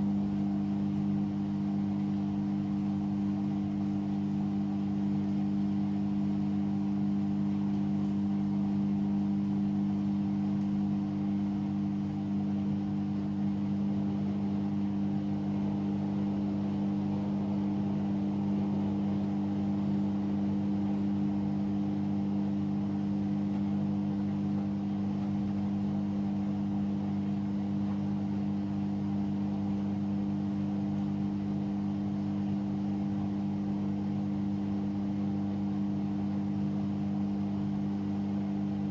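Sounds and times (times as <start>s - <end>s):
washing machine spin hum: 0.0s - 38.9s.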